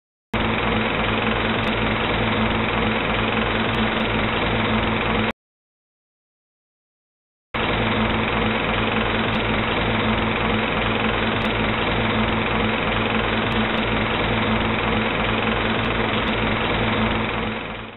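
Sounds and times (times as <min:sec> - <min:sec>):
movie projector running: 0:00.4 - 0:05.3, 0:07.6 - 0:17.9.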